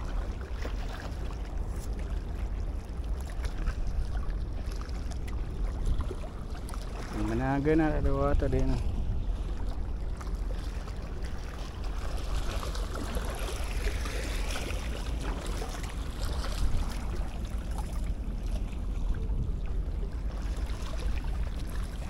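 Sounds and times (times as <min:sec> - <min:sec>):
water lapping at shore: 0:00.0 - 0:22.0
wind rumble on microphone: 0:00.0 - 0:22.0.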